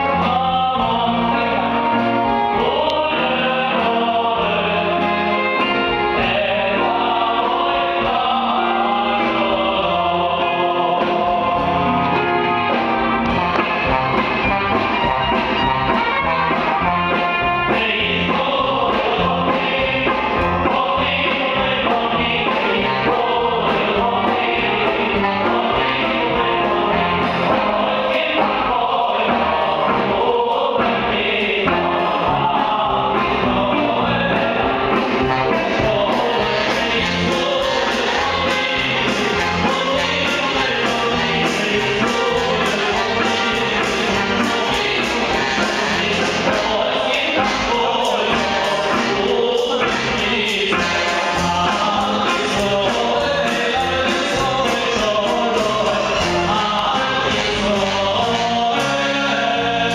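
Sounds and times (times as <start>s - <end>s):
live band with brass: 0.0s - 59.9s
male choir singing: 0.0s - 59.9s.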